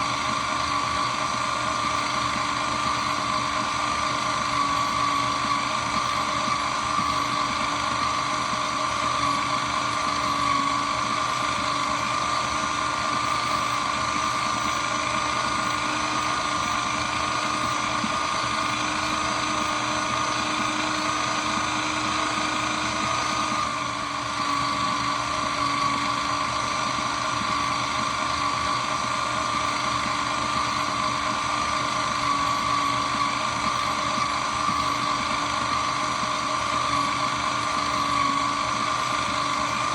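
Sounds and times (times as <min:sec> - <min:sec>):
shredder motor whine: 0:00.0 - 0:39.9.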